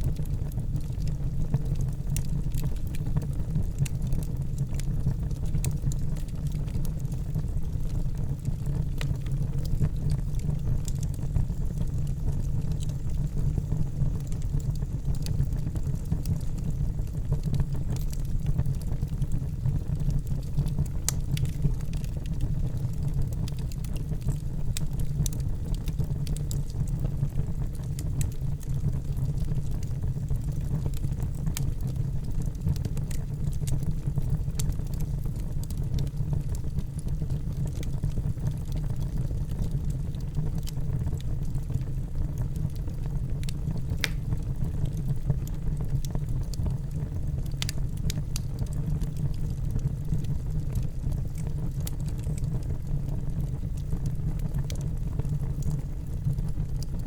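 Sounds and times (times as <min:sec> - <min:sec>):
fire crackling and popping: 0:00.0 - 0:57.0
fire low rumble: 0:00.0 - 0:57.0.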